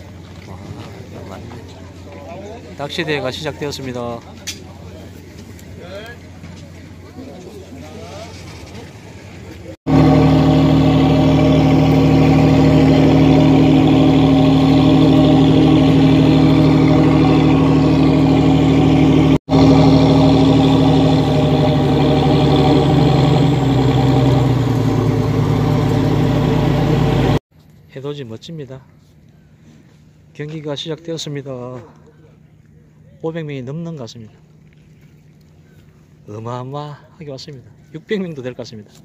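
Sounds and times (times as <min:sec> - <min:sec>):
boat engine droning: 0:00.0 - 0:27.4, 0:31.9 - 0:37.9.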